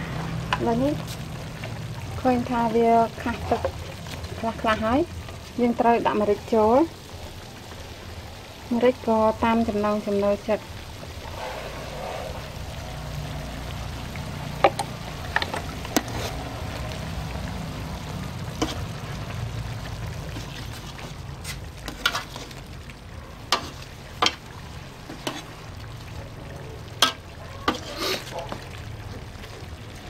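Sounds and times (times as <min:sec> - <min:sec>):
pork sizzling and bubbling in pot: 0:00.0 - 0:30.0.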